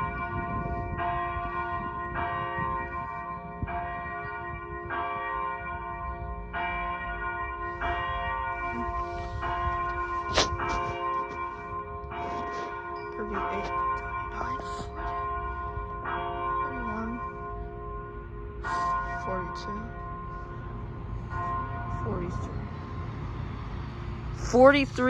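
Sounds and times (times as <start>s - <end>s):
church bell tolling: 0.0s - 25.0s.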